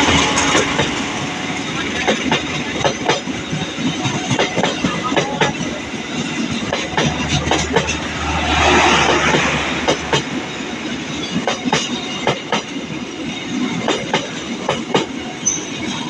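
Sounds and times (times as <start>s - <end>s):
train running noise rush: 0.0s - 16.0s
train wheels clacking over rail joints: 0.0s - 16.0s.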